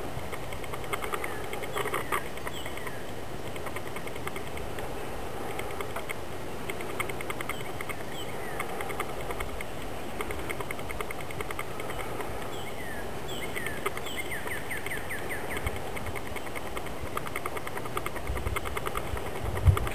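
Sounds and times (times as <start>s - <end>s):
fast high ticking: 0.2s - 19.9s
birds chirping: 0.3s - 19.9s.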